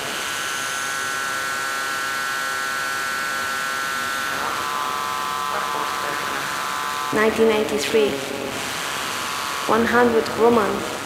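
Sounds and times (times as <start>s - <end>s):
electronic buzzing drone: 0.0s - 11.0s.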